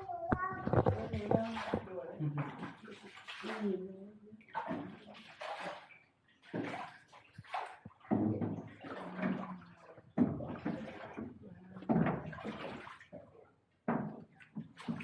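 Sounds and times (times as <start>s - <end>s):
oars splashing in water: 0.0s - 3.8s, 4.4s - 15.0s.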